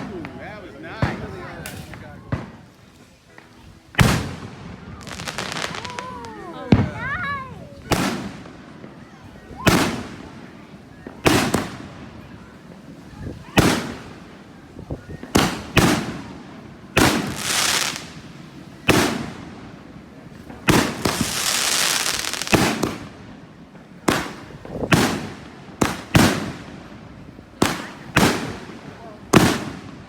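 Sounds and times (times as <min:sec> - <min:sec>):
fireworks bangs: 0:00.0 - 0:02.7, 0:03.9 - 0:30.0
firework hiss: 0:03.6 - 0:30.0.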